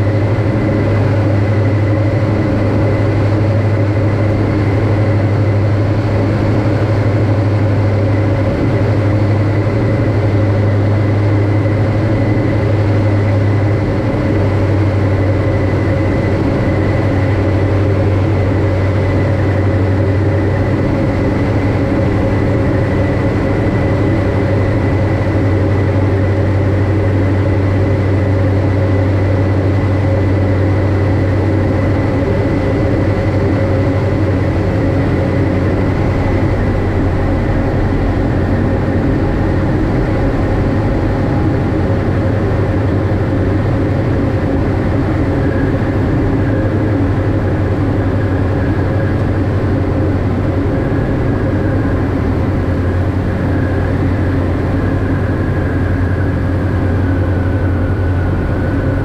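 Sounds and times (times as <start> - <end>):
high whine: 0.0 - 59.0
propeller aircraft engines droning: 0.0 - 59.0.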